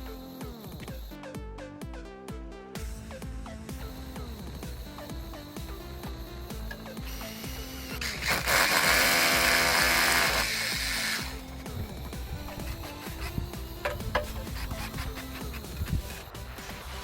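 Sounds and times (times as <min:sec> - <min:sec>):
power tool running: 0:00.0 - 0:01.2, 0:03.4 - 0:17.0
background music with steady beat: 0:00.0 - 0:17.0.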